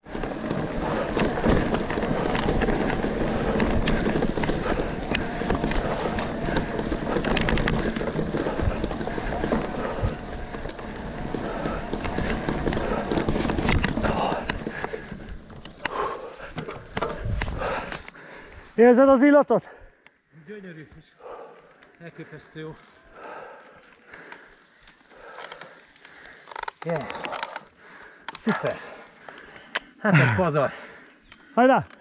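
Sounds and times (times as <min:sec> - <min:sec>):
bike rattling over stones: 0:00.0 - 0:19.3, 0:22.0 - 0:31.9.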